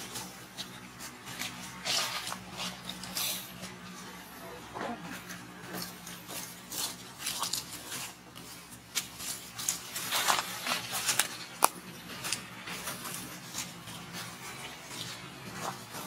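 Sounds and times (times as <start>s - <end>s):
dry leaves rustling and crackling: 0.0s - 16.0s.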